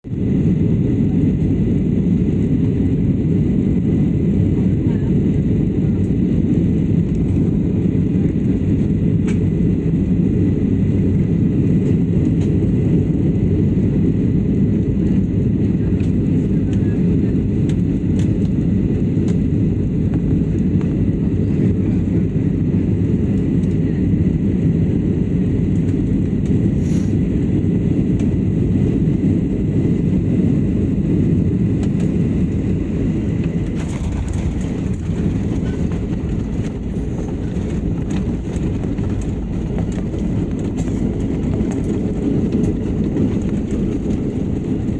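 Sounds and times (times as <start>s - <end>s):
airliner landing rumble in cabin: 0.0s - 44.9s.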